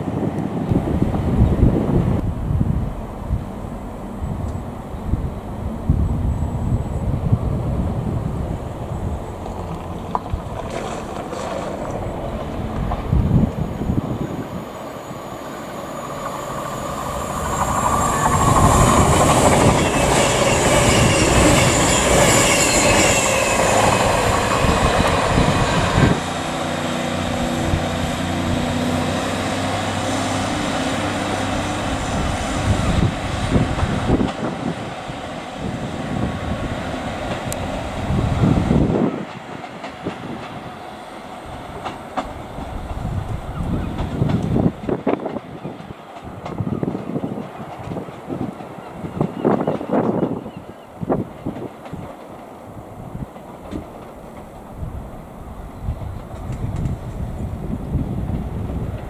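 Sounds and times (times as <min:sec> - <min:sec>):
diesel train engine humming: 0:00.0 - 0:59.0
diesel train passing: 0:00.0 - 0:59.0.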